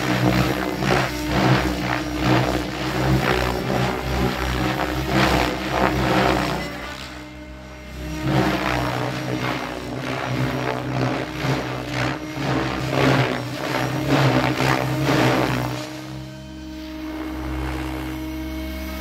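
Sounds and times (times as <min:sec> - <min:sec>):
rotor blades whooshing: 0:00.0 - 0:18.2
rotor and motor hum: 0:00.0 - 0:19.0.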